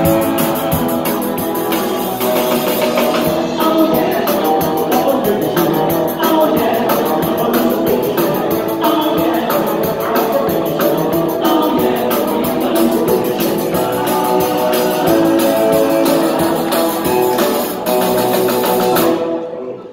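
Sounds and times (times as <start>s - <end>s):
drum kit beat: 0.0s - 19.2s
rock band playing: 0.0s - 19.4s
person singing: 0.0s - 19.8s.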